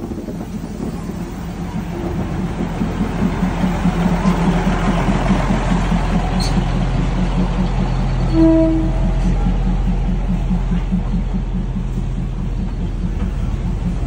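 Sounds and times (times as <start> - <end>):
diesel train rumbling past: 0.0 - 14.0.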